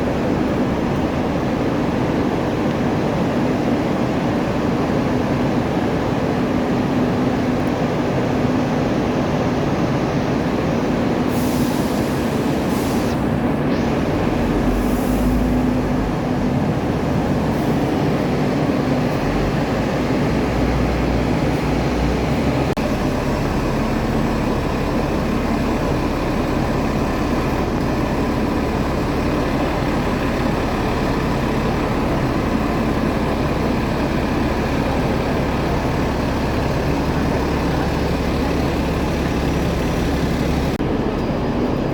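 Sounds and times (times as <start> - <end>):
boat engine droning: 0.0 - 41.9
dense rushing noise: 7.9 - 41.9.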